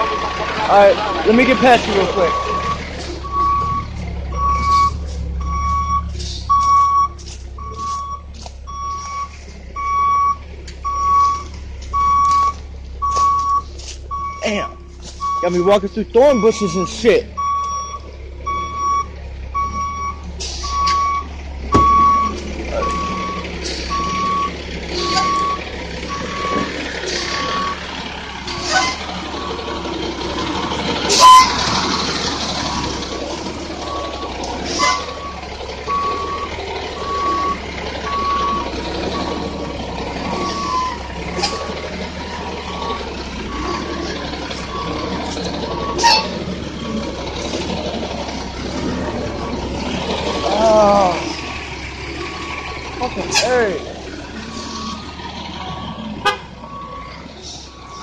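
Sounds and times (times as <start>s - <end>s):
truck engine running: 0.0s - 58.0s
truck reversing alarm beeping: 0.0s - 58.0s.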